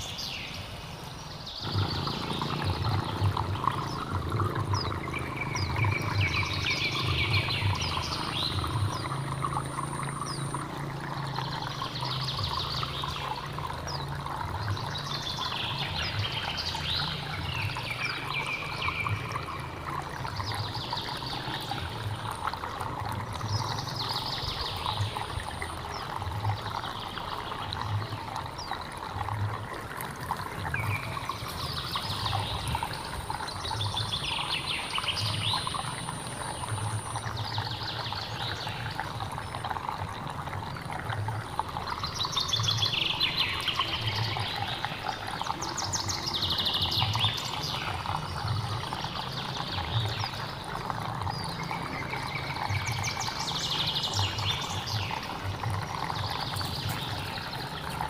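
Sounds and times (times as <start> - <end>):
bird singing: 0.0 - 22.6, 30.7 - 40.0, 41.4 - 50.6, 51.2 - 58.0
stream water rushing: 0.0 - 58.0.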